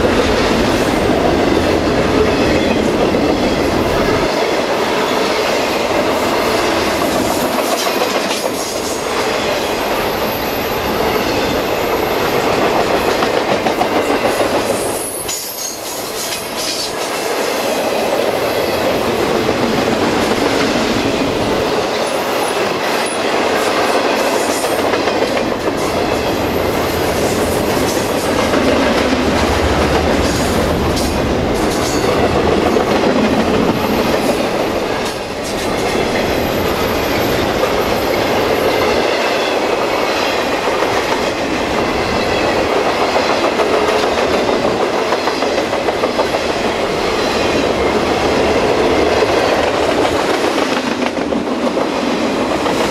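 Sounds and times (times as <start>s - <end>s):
steel wheels on rail: 0.0s - 52.9s.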